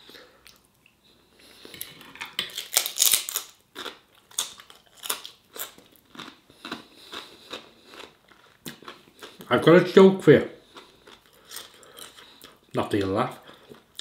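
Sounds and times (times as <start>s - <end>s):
chewing crunchy food: 1.7s - 9.6s, 10.6s - 14.0s.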